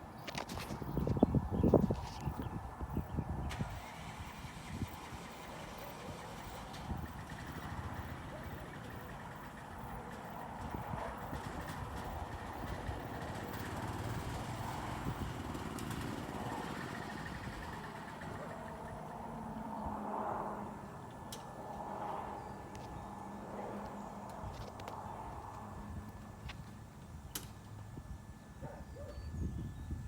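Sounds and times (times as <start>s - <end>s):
golf cart engine running: 0.3s - 27.9s.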